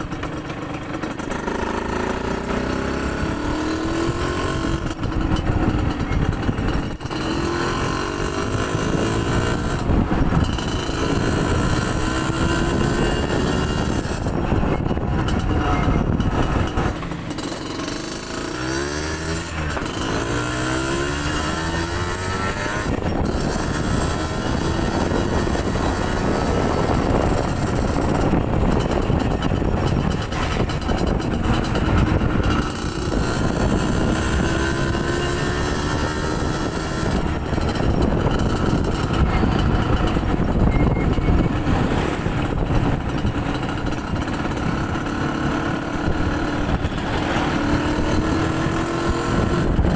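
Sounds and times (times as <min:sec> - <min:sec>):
two-stroke motorcycle engine accelerating: 0:00.0 - 0:49.9
wind noise on microphone: 0:00.0 - 0:49.9.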